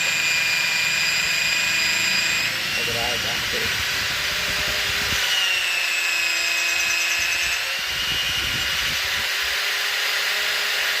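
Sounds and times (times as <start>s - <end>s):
electric drill whining: 0.0s - 11.0s.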